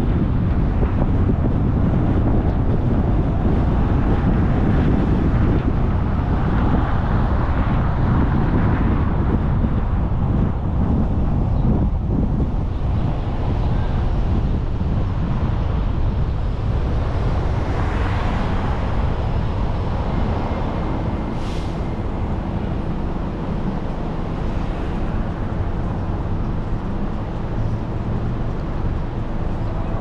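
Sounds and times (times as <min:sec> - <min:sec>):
car engine and tyre rumble: 0:00.0 - 0:30.0
surrounding traffic: 0:00.0 - 0:30.0.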